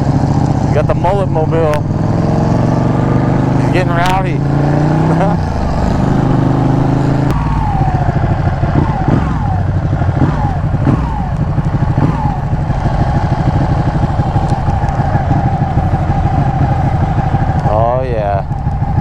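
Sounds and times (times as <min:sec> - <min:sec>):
loud engine rumbling: 0:00.0 - 0:19.0
short falling whines: 0:03.3 - 0:19.0.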